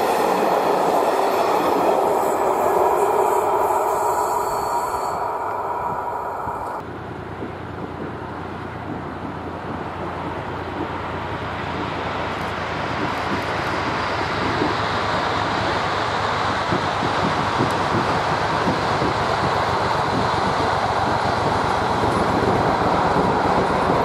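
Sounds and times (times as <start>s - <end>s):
locomotive and coaches passing: 0.0s - 24.0s
passing train: 0.0s - 24.0s.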